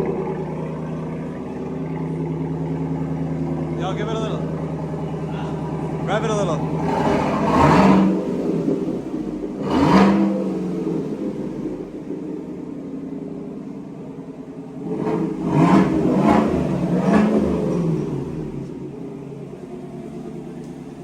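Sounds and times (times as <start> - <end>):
car engine revving over idle: 0.0 - 21.0.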